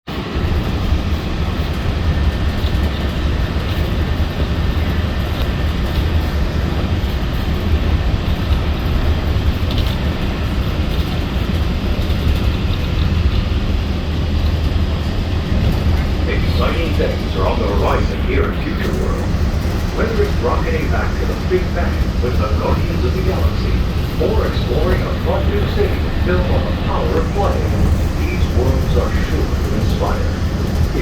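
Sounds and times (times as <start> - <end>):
monorail cabin rumble: 0.1 - 31.0.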